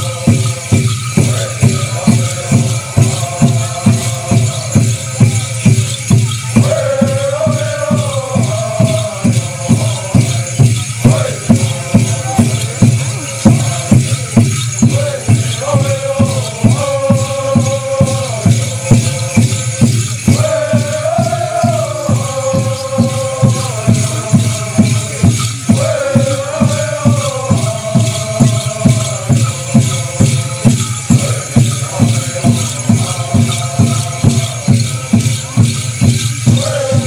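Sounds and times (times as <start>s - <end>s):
rattles shaking: 0.0s - 37.0s
steady drumbeat: 0.0s - 37.0s
voices chanting together: 0.0s - 37.0s.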